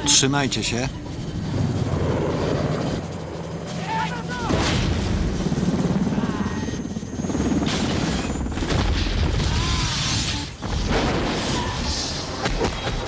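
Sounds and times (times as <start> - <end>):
helicopter rotor and engine rumble: 0.0 - 10.8.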